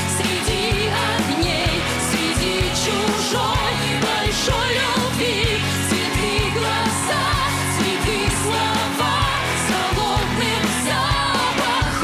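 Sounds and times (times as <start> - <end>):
pop backing music with drum beat: 0.0 - 12.0
woman singing into a microphone: 0.0 - 12.0.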